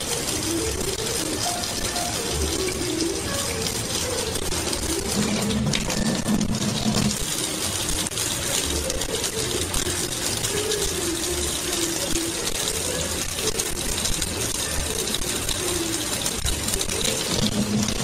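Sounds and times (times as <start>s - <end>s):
faucet running into sink: 0.0s - 18.0s.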